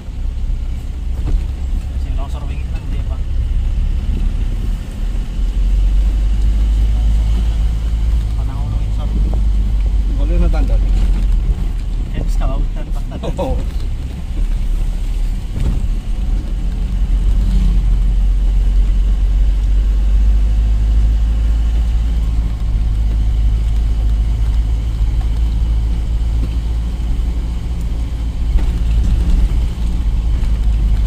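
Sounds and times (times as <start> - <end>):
road rumble: 0.0 - 31.0
truck engine droning: 0.0 - 31.0.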